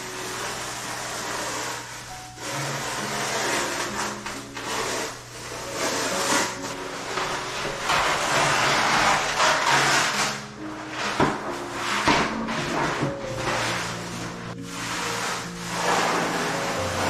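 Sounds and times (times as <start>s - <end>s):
background music: 0.0s - 17.0s
wallpaper ripping: 0.0s - 17.0s.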